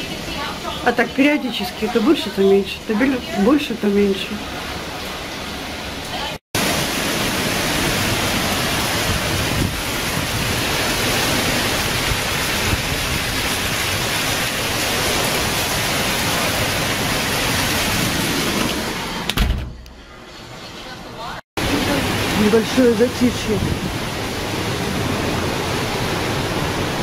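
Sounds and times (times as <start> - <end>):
hurricane wind and heavy rain: 0.0 - 27.0.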